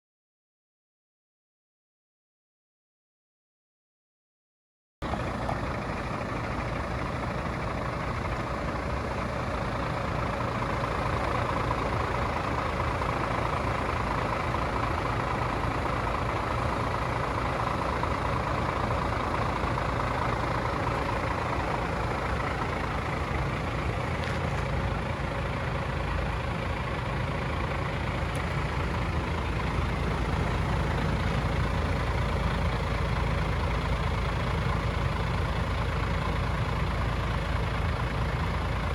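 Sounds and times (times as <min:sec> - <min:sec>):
truck diesel engine idling: 0:05.0 - 0:38.9.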